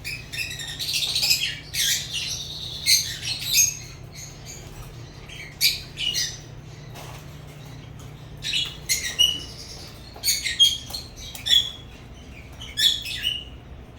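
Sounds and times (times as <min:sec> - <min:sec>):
lovebirds chirping and squawking: 0:00.0 - 0:13.9.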